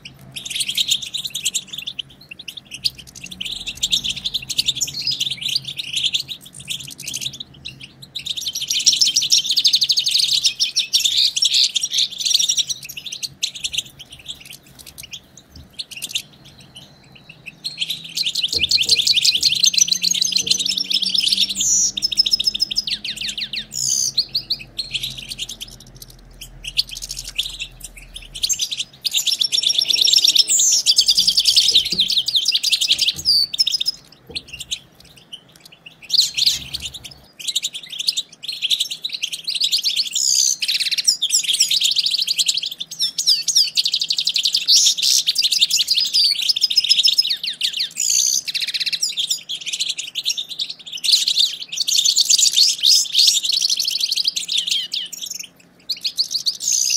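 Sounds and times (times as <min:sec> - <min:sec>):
finches twittering: 0:00.0 - 0:56.9.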